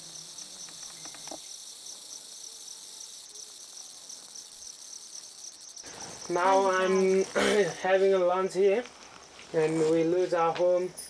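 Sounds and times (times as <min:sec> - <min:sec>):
pulsing high-pitched insect chorus: 0:00.0 - 0:11.0.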